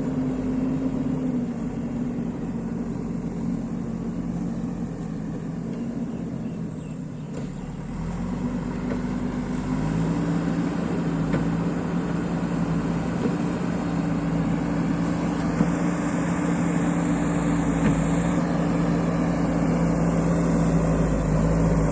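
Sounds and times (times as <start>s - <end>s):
diesel engine revving: 0.0s - 21.9s.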